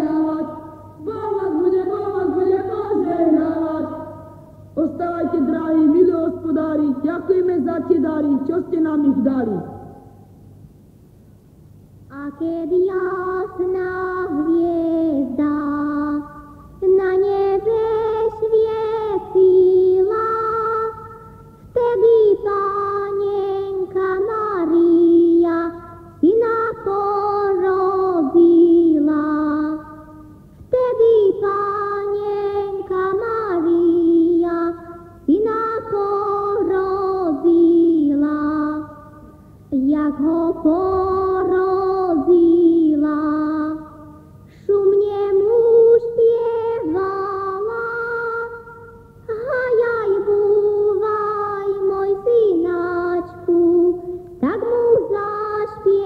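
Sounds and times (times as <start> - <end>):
high voice singing unaccompanied: 0.0 - 10.3, 12.1 - 56.0.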